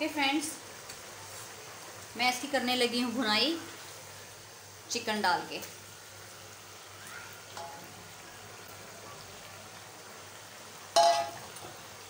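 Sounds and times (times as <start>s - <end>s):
chicken sizzling in a wok: 0.0s - 12.0s.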